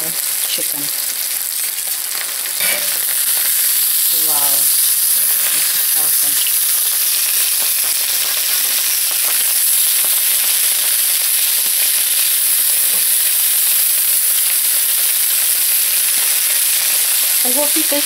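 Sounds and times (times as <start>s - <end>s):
chicken sizzling on grill pan: 0.0s - 18.0s.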